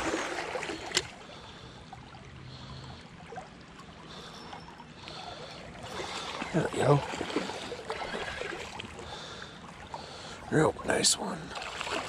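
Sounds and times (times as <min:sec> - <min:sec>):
creek water over gravel: 0:00.0 - 0:12.0.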